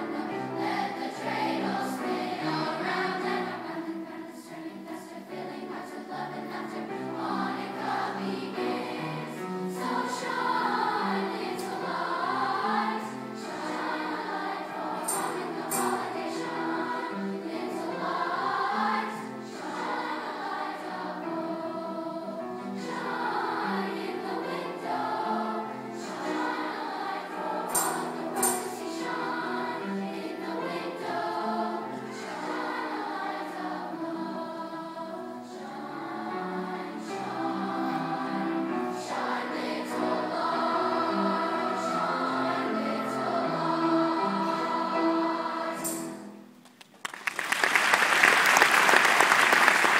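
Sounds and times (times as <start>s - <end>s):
choir singing: 0.0s - 46.5s
piano: 0.0s - 49.9s.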